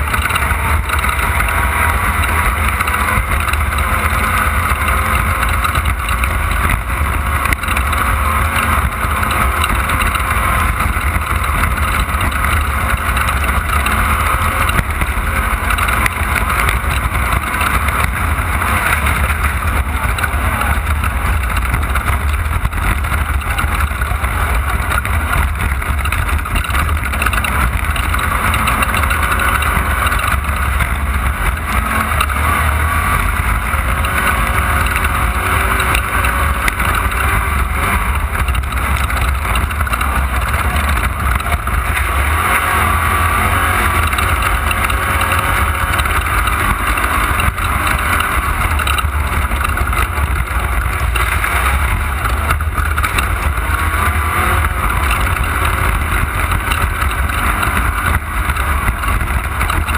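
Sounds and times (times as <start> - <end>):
race car engine running hard: 0.0 - 59.9
road noise on rough dirt: 0.0 - 59.9.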